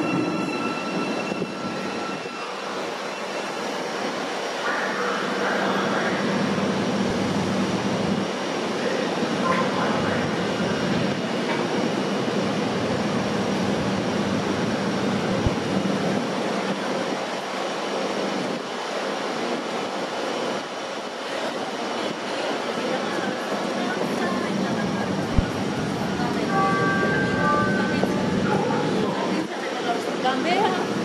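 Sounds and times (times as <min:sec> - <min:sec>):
train wheel and rail noise: 0:00.0 - 0:31.0.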